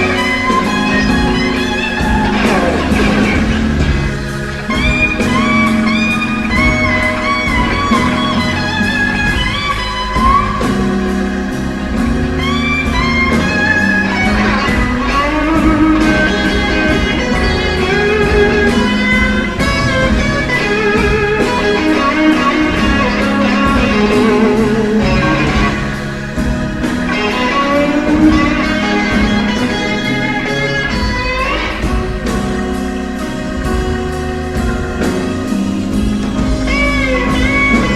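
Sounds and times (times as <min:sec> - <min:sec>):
electric blues guitar solo: 0:00.0 - 0:37.9
steady beat: 0:00.0 - 0:37.9.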